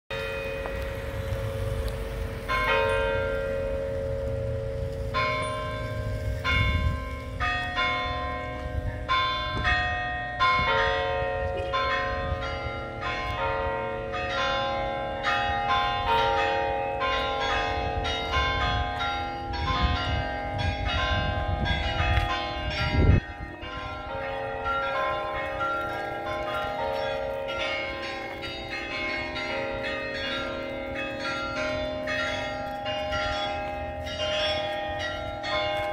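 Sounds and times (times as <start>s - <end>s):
church bells ringing: 0.1s - 35.9s.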